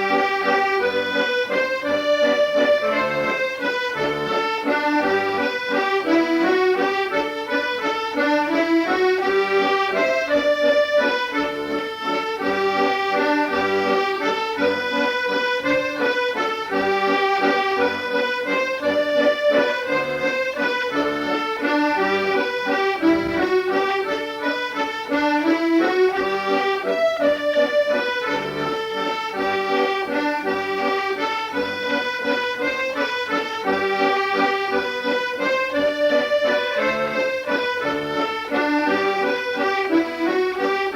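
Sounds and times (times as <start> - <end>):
accordion playing lively melody: 0.0 - 40.9.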